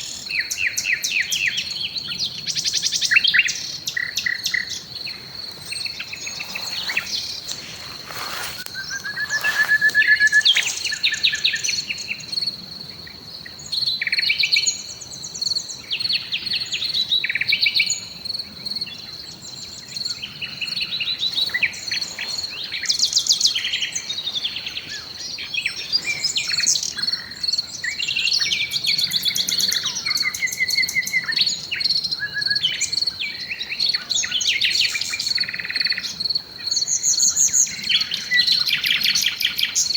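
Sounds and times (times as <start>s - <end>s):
insect drone: 0.0s - 39.9s
songbirds singing: 0.0s - 39.9s.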